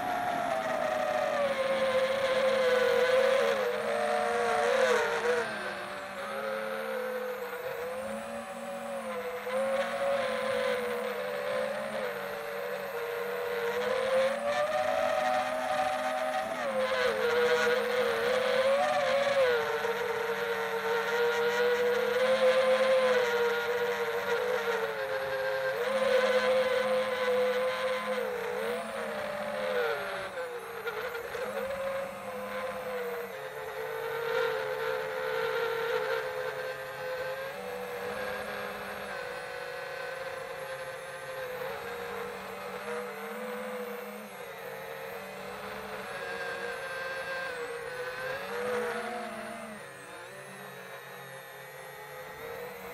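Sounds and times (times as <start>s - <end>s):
drone propellers whining: 0.0s - 52.9s.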